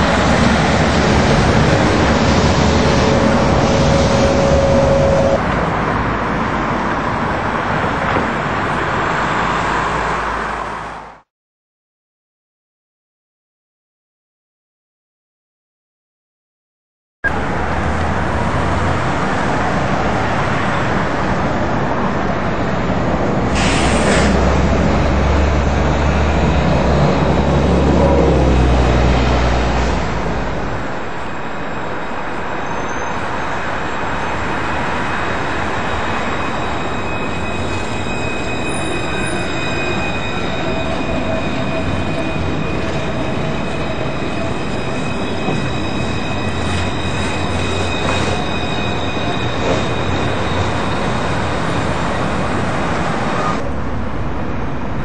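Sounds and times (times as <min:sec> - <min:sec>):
tram wheels squealing: 0:00.0 - 0:11.0, 0:17.3 - 0:55.0
street traffic rumble: 0:00.0 - 0:11.2, 0:17.3 - 0:55.0
tram passing: 0:00.0 - 0:11.3, 0:17.3 - 0:55.0.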